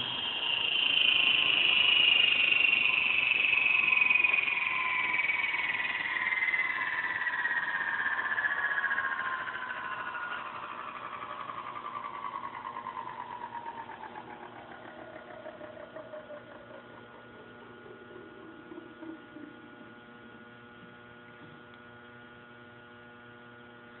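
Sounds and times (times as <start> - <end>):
rough bearing pulsing: 0.0 - 20.7
electric motor spinning down: 0.0 - 21.6
steady motor hum: 0.0 - 24.0.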